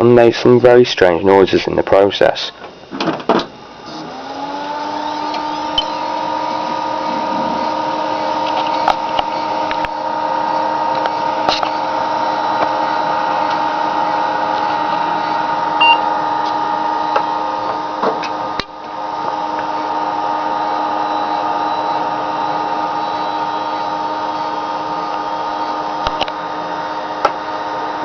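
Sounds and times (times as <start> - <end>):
hard drive whining: 0.0 - 28.0.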